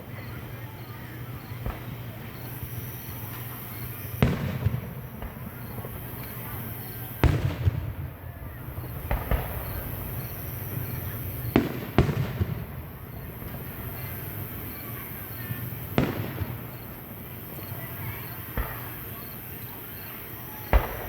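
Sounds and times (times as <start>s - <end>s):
fireworks bangs with echo: 0.0s - 21.0s.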